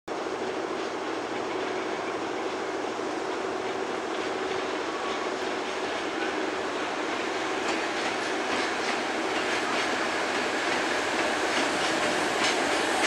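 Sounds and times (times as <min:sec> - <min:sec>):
freight train rumbling on rails: 0:00.1 - 0:13.0
locomotive hum: 0:00.1 - 0:13.0.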